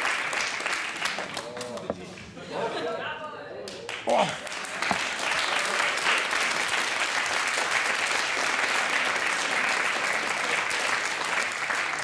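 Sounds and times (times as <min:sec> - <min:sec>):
audience applauding: 0:00.0 - 0:01.9, 0:03.9 - 0:12.0.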